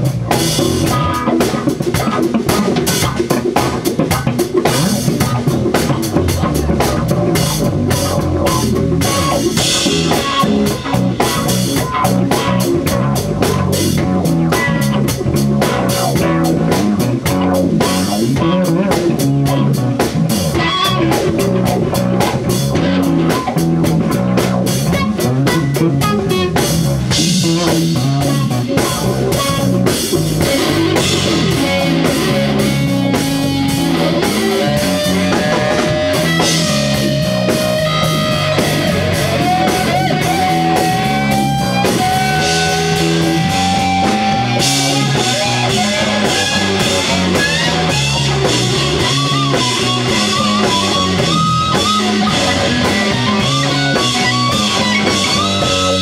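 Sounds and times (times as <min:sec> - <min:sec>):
drum kit steady beat: 0:00.0 - 0:56.0
electric guitar lead line: 0:00.0 - 0:56.0.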